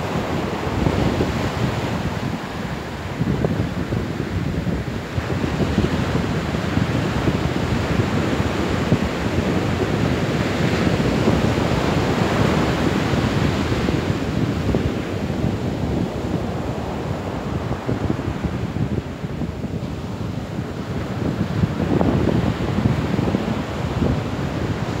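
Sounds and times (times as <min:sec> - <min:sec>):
ocean surf breaking on beach: 0:00.0 - 0:25.0
wind buffeting microphone: 0:00.0 - 0:25.0.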